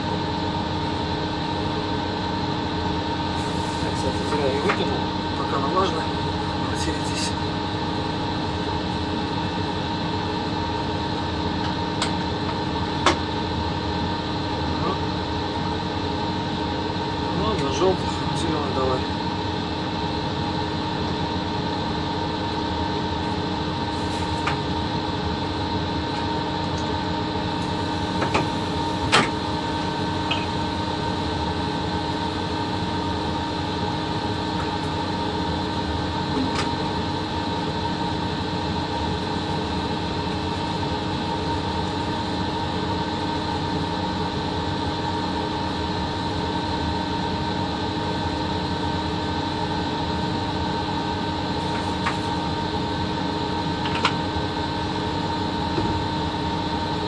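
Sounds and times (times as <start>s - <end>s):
locomotive machinery hum and whine: 0.0s - 57.0s.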